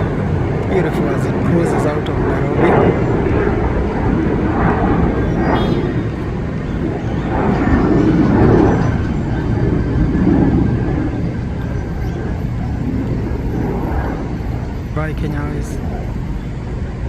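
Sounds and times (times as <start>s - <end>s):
jet airliner engines rumbling: 0.0s - 17.0s.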